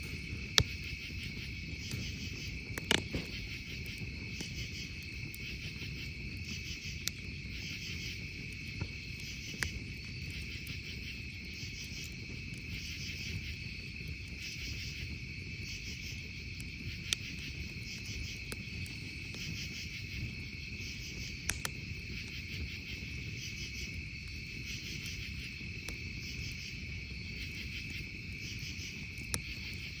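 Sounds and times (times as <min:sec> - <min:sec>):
campfire popping: 0:00.0 - 0:30.0
crickets and insects chirping: 0:00.0 - 0:30.0.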